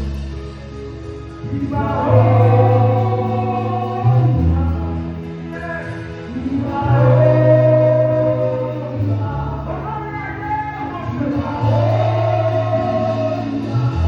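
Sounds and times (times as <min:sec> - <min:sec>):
sustained low bass notes: 0:00.0 - 0:14.0
voices singing held notes: 0:01.4 - 0:14.0.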